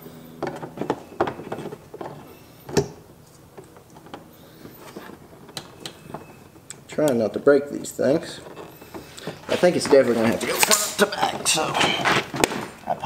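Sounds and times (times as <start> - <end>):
rubbing of plastic parts: 0.4 - 12.8.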